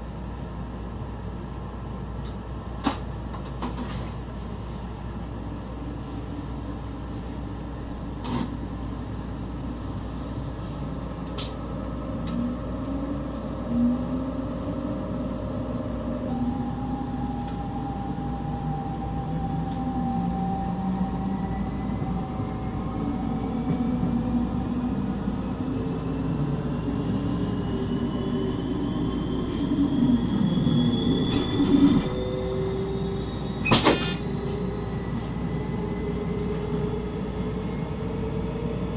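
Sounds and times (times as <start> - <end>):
train running rumble: 0.0 - 37.9
thin rising train whine: 3.3 - 38.9.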